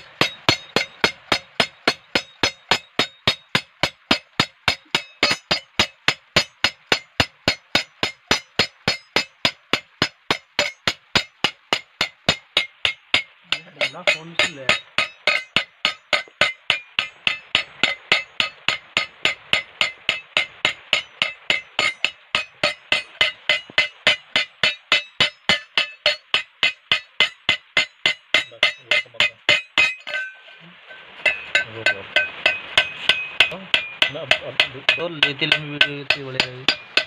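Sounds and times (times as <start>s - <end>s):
hammer striking metal mug: 0.0s - 30.4s, 31.2s - 37.0s.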